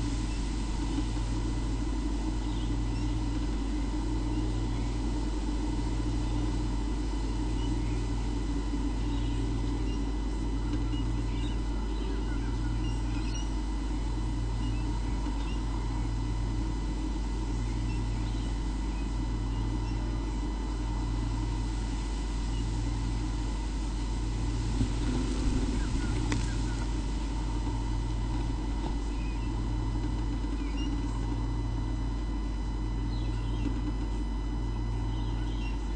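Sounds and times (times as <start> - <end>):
pulsing deep drone: 0.0 - 35.9
steady low hum: 0.0 - 35.9.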